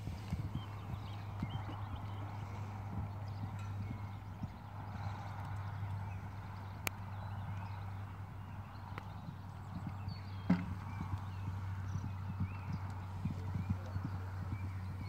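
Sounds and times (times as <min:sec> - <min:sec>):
hooves cantering on sand: 0:00.0 - 0:15.0.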